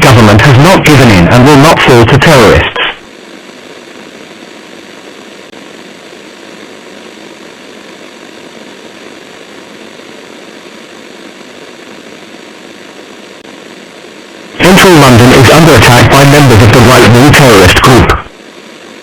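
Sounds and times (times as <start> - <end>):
broadcast static hiss: 0.0 - 19.0.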